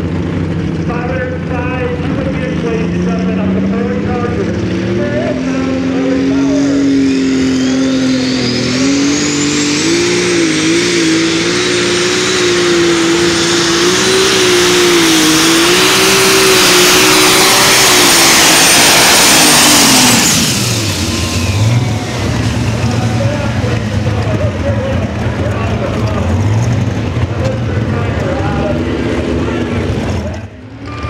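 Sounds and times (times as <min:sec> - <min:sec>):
engine under full power: 0:00.0 - 0:31.0
high whine: 0:00.8 - 0:26.2.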